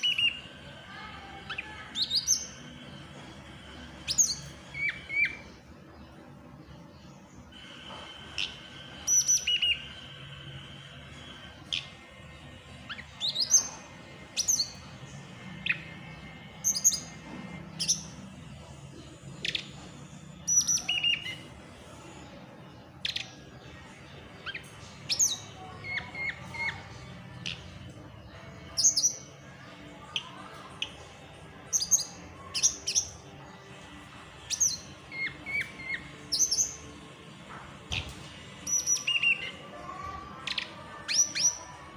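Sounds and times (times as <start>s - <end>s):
songbird chirps and whistles: 0.0s - 18.3s, 19.1s - 37.1s, 37.9s - 41.9s.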